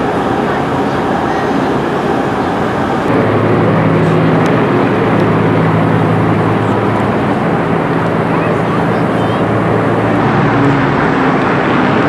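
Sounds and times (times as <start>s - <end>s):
propeller aircraft flying overhead: 0.0s - 12.0s
steady rushing noise: 0.0s - 12.0s.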